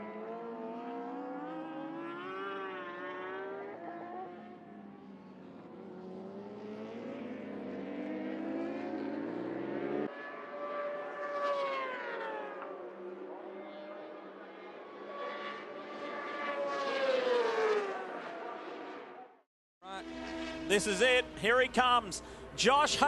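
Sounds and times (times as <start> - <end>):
motorcycles at full throttle: 0.0 - 19.2, 19.9 - 22.6
motorcycle passing by: 0.0 - 21.8.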